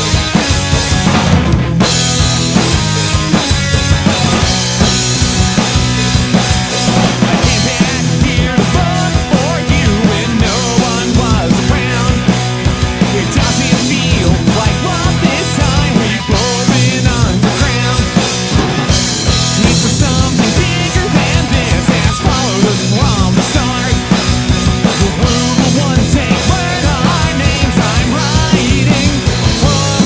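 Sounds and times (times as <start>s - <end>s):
punk rock band playing: 0.0s - 30.0s.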